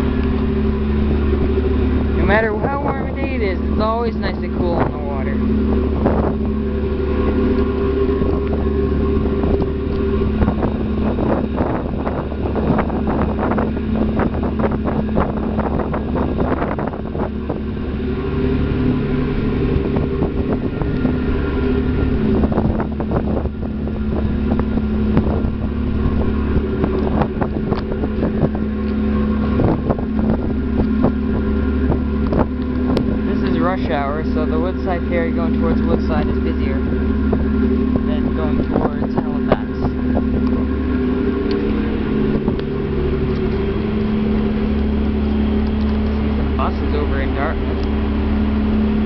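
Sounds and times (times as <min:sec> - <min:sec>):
ferry diesel engines droning: 0:00.0 - 0:49.0
wind buffeting microphone: 0:00.0 - 0:49.0.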